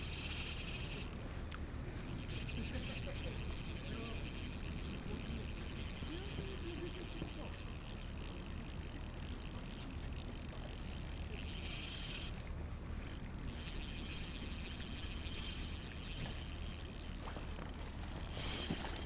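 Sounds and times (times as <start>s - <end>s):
fishing reel gears whirring: 0.0s - 19.0s.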